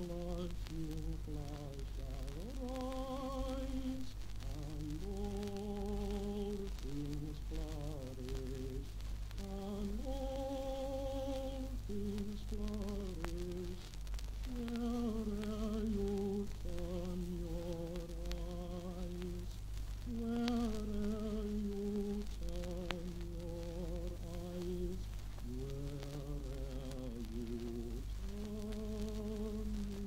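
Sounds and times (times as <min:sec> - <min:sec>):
low hum: 0:00.0 - 0:30.0
person singing: 0:00.0 - 0:30.0.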